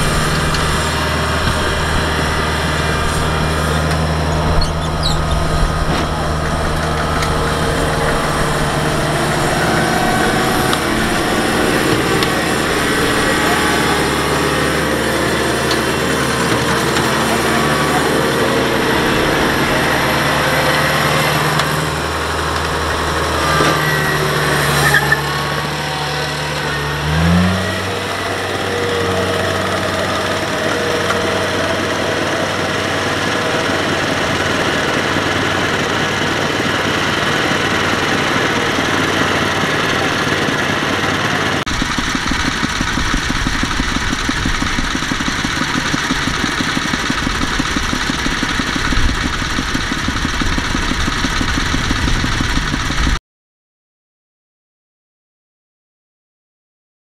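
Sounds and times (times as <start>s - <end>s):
combine harvester engine running: 0.0s - 53.2s.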